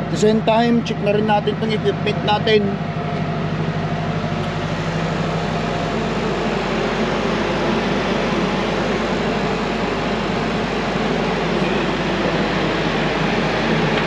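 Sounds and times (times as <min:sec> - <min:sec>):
low hum: 0:00.0 - 0:14.0
refrigeration unit hissing: 0:00.0 - 0:14.0
truck engine drone: 0:00.0 - 0:14.0.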